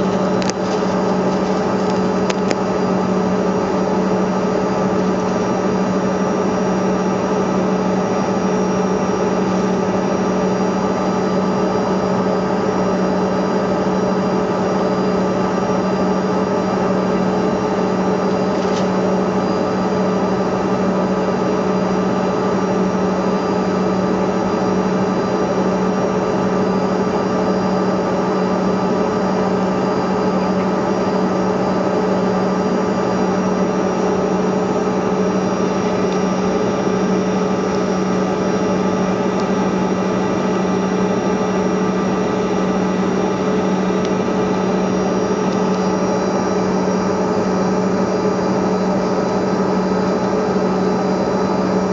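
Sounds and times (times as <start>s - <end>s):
jet engines droning in cabin: 0.0s - 51.9s.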